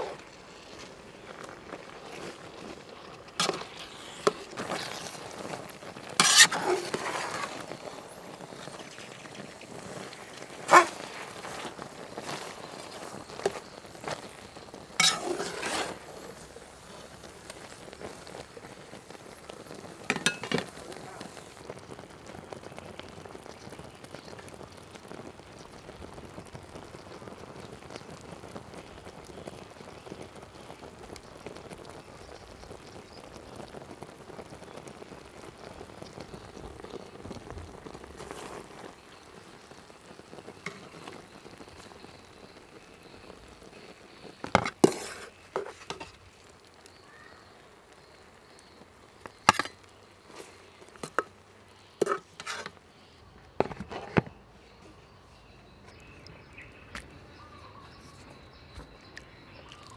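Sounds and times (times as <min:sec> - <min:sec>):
intestines sizzling in sauce: 0:00.0 - 0:59.9.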